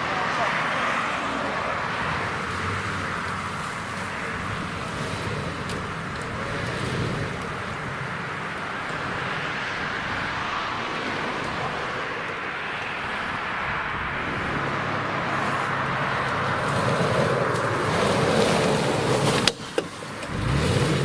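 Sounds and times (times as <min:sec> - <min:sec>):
steady rushing noise: 0:00.0 - 0:21.0
car engine running: 0:01.2 - 0:21.0.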